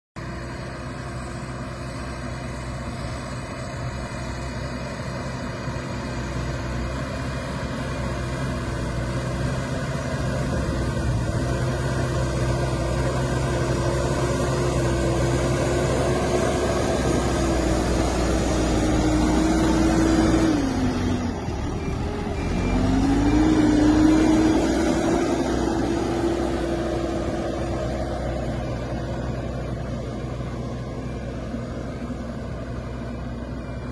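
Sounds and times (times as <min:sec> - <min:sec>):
diesel engine running under load: 0:00.2 - 0:33.9.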